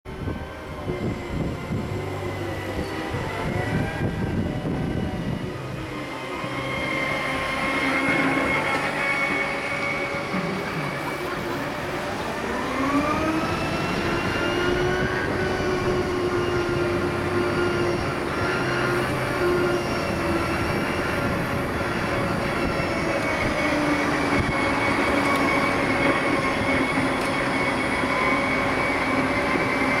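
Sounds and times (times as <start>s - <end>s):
electric motors whining: 0.1s - 30.0s.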